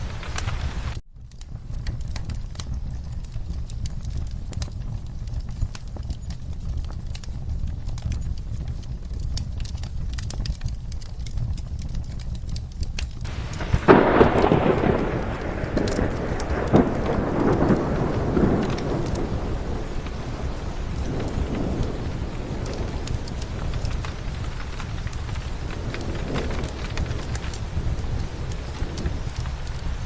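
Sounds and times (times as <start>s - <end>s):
fireplace crackling: 0.0s - 30.0s
steady rain: 0.0s - 30.0s
thunderclap rumbling: 0.0s - 30.0s.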